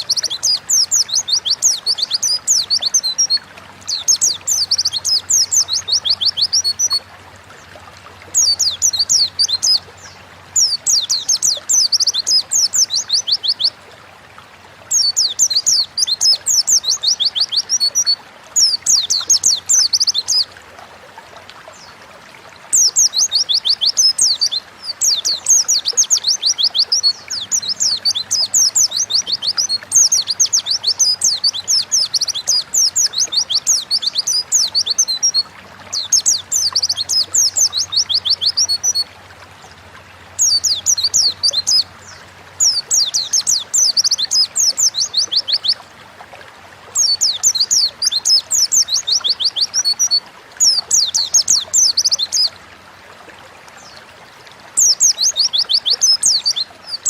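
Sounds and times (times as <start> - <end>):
bird chirping song: 0.0 - 7.0, 8.3 - 13.8, 14.9 - 20.5, 22.7 - 39.8, 40.4 - 45.8, 46.9 - 52.6, 54.8 - 57.0.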